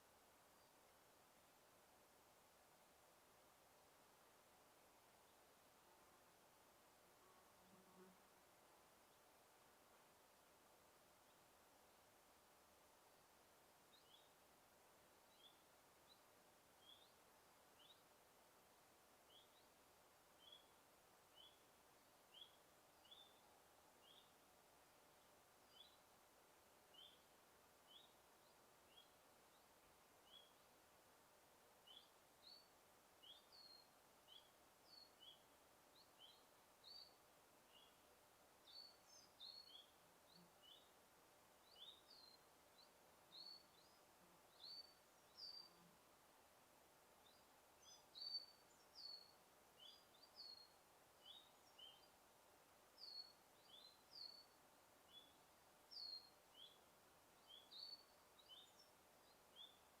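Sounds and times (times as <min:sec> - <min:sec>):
soft steady hiss: 0:00.0 - 1:00.0
songbirds chirping: 0:00.0 - 1:00.0.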